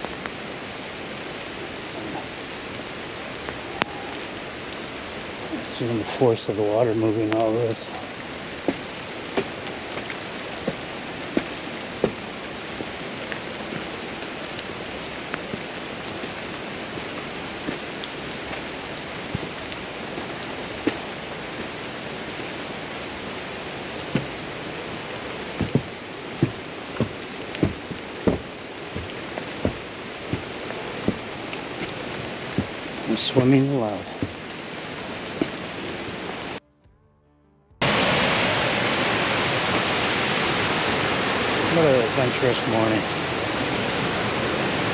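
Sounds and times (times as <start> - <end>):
rain hiss: 0.0 - 36.6, 37.8 - 44.9
rushing river water: 0.0 - 36.6, 37.8 - 44.9.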